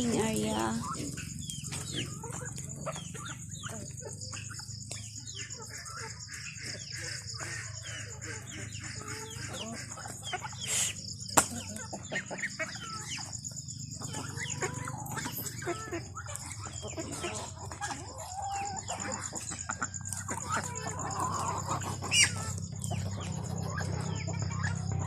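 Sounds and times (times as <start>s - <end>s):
chickens clucking: 0.0s - 25.0s
high insect drone: 0.0s - 25.0s.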